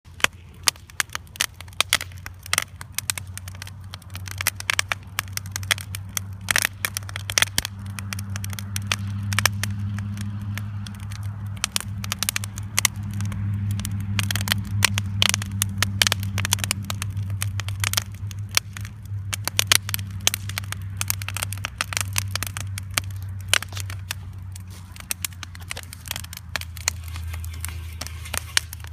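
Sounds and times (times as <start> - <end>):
bonfire crackling and popping: 0.0 - 28.9.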